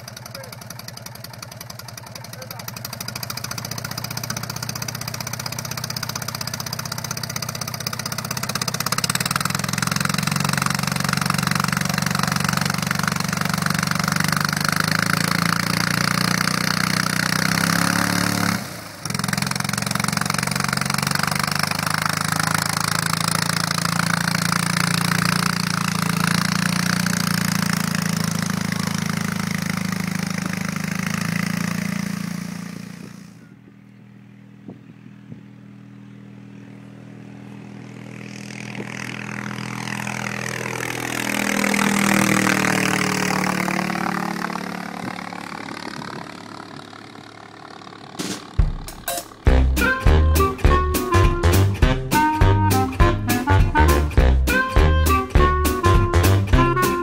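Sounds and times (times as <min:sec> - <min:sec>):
light aircraft piston engine: 0:00.0 - 0:57.0.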